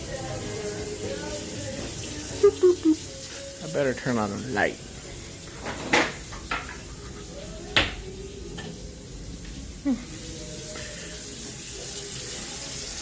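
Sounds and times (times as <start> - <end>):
water running from tap: 0.0 - 13.0.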